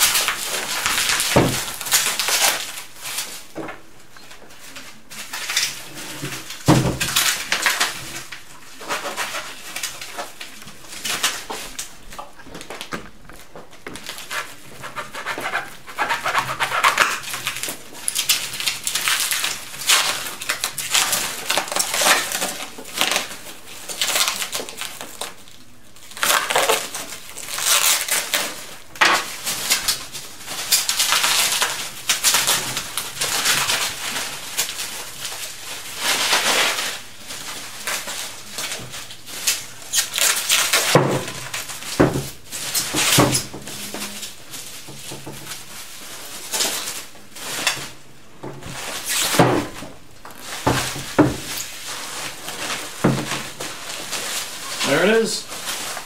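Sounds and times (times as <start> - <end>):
plastic wrap crinkling and rustling: 0.0 - 56.0.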